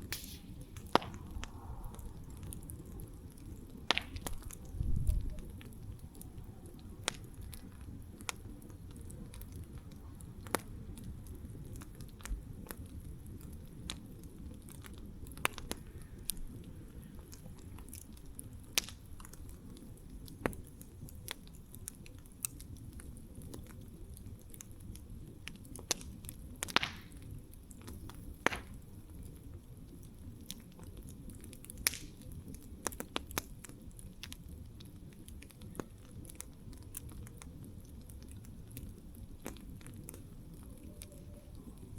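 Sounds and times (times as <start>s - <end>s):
campfire crackling: 0.0s - 41.9s
fire hissing: 0.0s - 41.9s.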